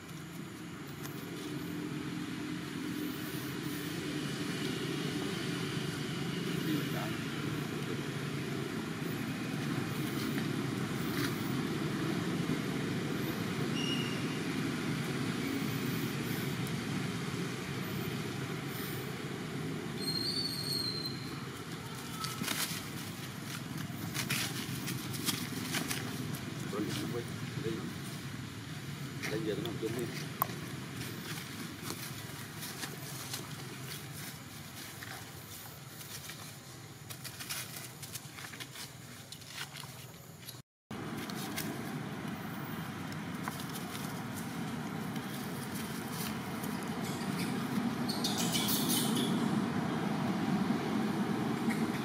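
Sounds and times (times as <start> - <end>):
traffic rumble: 0.0 - 52.0.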